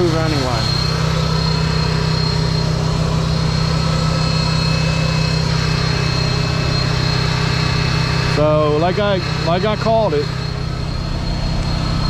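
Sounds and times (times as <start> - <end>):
engine idling: 0.0 - 12.0
faint high whine: 0.0 - 12.0.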